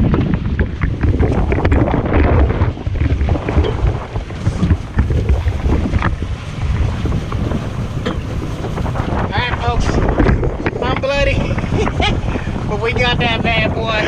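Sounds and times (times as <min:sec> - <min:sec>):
water sloshing along hull: 0:00.0 - 0:14.0
wind buffeting microphone: 0:00.0 - 0:14.0.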